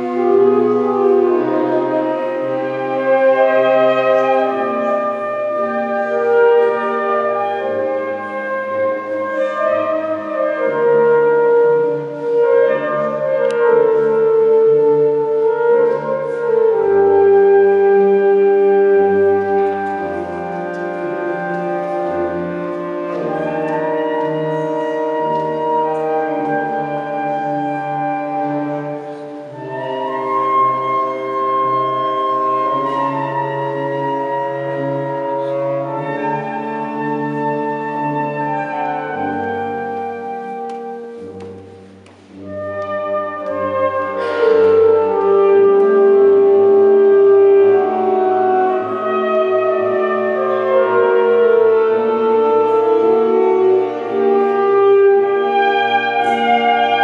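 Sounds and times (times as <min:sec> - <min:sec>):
wind band playing slow chords: 0:00.0 - 0:57.0.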